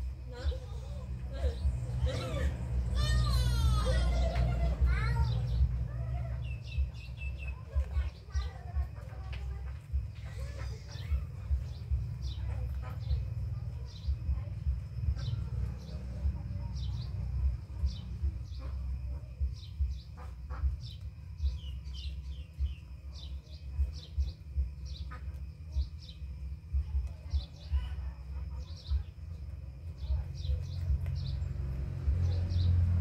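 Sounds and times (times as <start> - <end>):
low rumble with soft thumps: 0.0 - 33.0
small birds chirping: 0.0 - 33.0.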